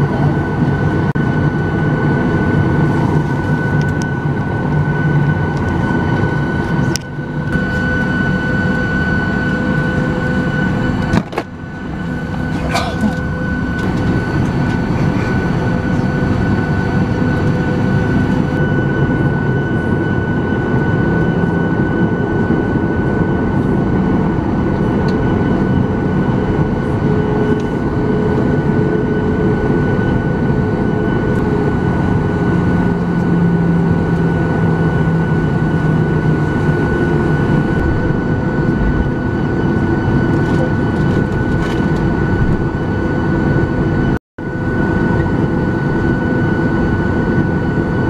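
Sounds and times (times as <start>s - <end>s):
jet engines idling whine: 0.0s - 48.0s
low cabin drone: 0.0s - 48.0s.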